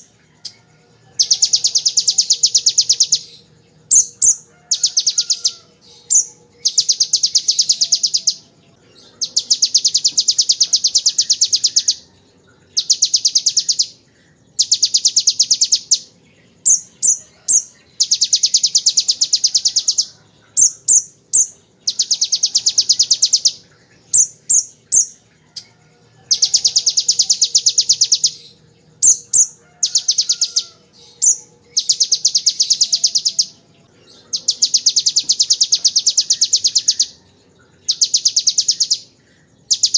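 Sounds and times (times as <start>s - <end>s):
sunbird sharp chirps: 0.0s - 0.6s, 1.2s - 12.0s, 12.7s - 25.2s, 26.3s - 37.2s, 37.8s - 39.9s.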